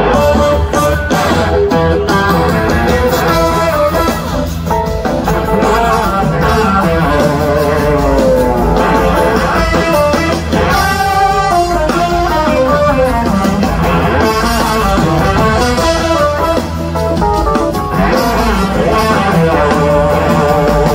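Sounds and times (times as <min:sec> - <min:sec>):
bass: 0:00.0 - 0:20.9
drums: 0:00.0 - 0:20.9
electric guitar lines: 0:00.0 - 0:20.9.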